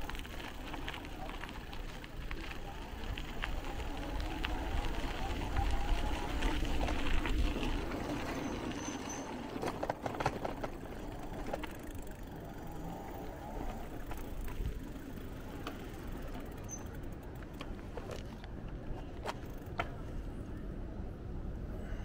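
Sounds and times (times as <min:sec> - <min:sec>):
bicycle rumbling over paving: 0:00.0 - 0:20.5.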